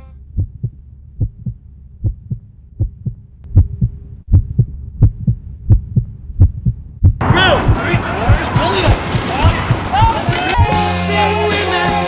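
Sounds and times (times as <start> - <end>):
heartbeat double thumps: 0.2 - 10.8.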